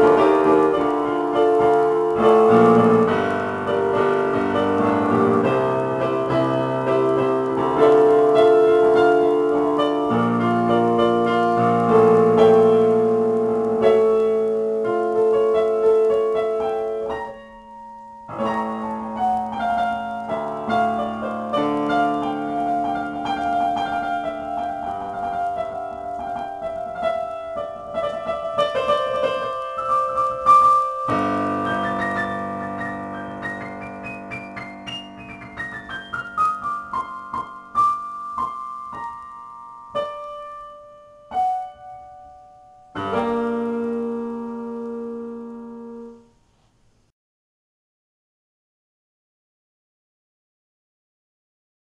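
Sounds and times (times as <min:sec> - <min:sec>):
slow piano improvisation: 0:00.0 - 0:47.1.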